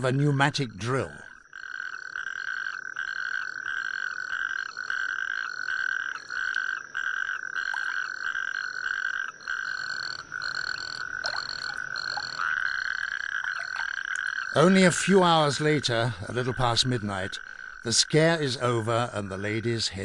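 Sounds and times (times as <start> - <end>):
toad trilling call: 1.3 - 18.3.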